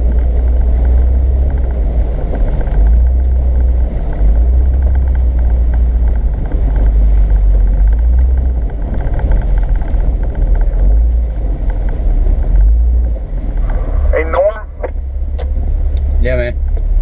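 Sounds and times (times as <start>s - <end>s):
off-road vehicle engine rumble: 0.0s - 17.0s.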